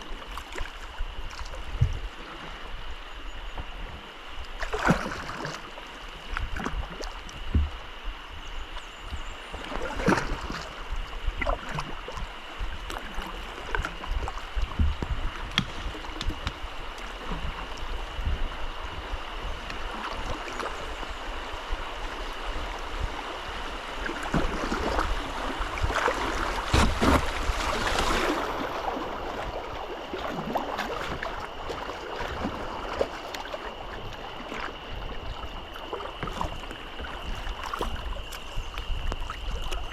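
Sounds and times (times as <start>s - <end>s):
flowing water: 0.0s - 39.9s
paddle blades splashing: 0.0s - 39.9s
rush of water: 0.0s - 39.9s.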